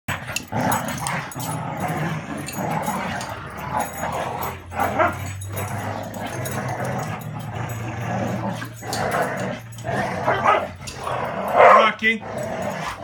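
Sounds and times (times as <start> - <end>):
dogs growling: 0.1 - 13.0.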